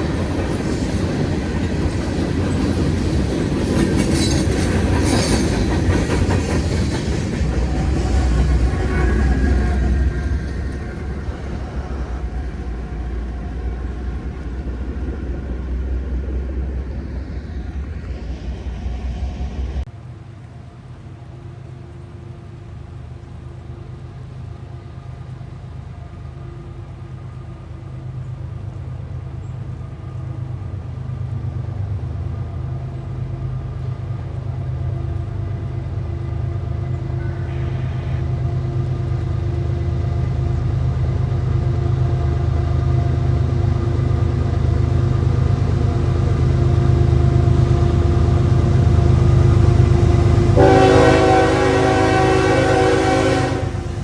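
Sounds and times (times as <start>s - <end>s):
diesel locomotive engines humming: 0.0s - 54.0s
heavy train rumble: 0.0s - 54.0s.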